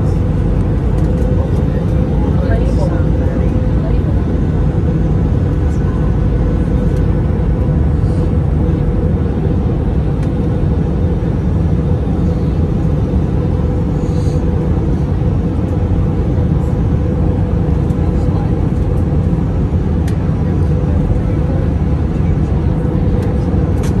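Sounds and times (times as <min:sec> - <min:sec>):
jet engine cabin rumble: 0:00.0 - 0:24.0
steady hum: 0:00.0 - 0:24.0.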